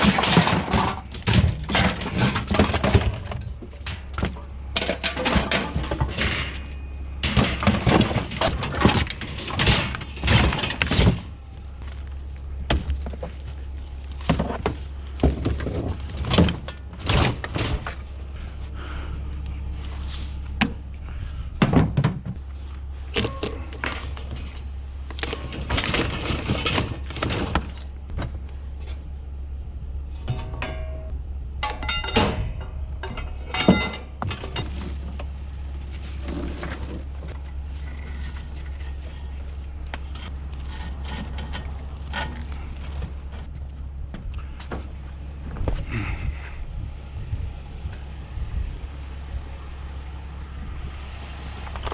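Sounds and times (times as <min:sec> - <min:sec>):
scrap thunks and clatter: 0:00.0 - 0:29.2, 0:30.0 - 0:49.0, 0:50.7 - 0:51.9
steady low hum: 0:00.0 - 0:51.9.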